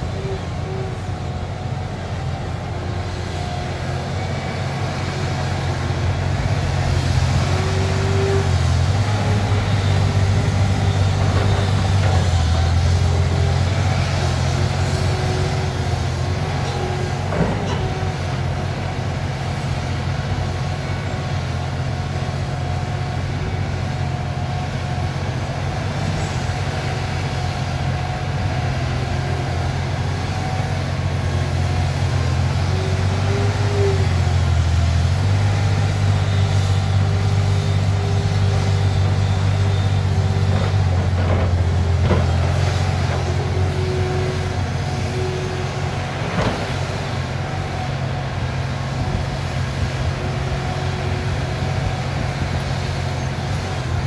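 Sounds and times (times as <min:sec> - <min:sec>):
excavator diesel engine under load: 0:00.0 - 0:54.0
hydraulic whine: 0:00.0 - 0:54.0.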